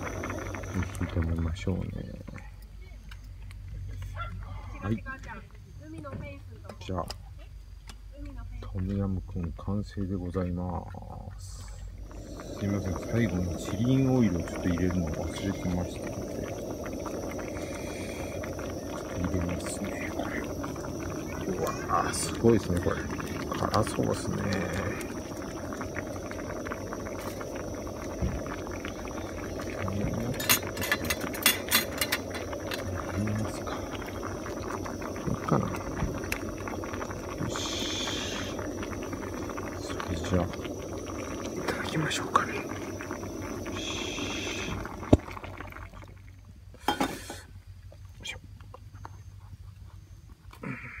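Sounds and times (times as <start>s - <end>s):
soup bubbling at the boil: 0.0s - 2.5s, 8.8s - 49.0s, 50.5s - 51.0s.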